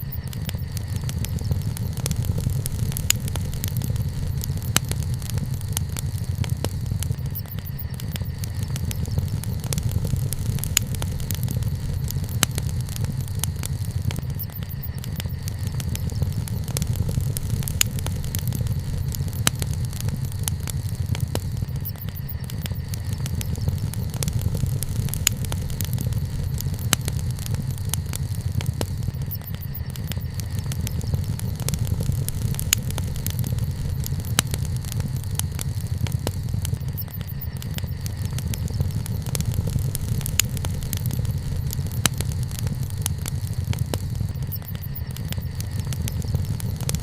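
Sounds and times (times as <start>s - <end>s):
burning wood crackling and popping: 0.0s - 47.0s
fire flames rumbling: 0.0s - 47.0s.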